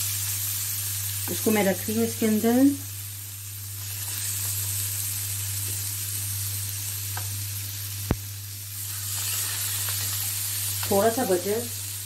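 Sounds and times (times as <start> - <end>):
fish sizzling in butter: 0.0 - 12.0
low electrical hum: 0.0 - 12.0.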